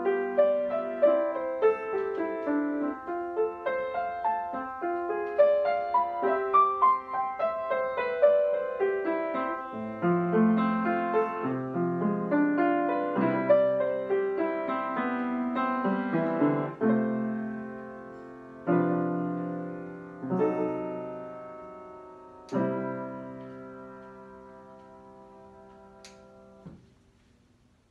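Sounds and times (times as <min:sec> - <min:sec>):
piano playing: 0:00.0 - 0:26.8.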